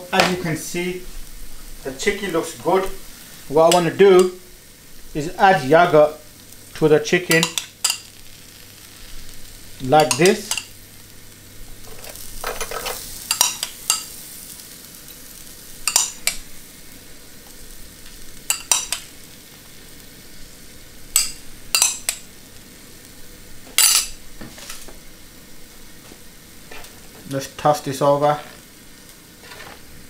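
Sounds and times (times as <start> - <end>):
faint sizzle: 0.0 - 30.0.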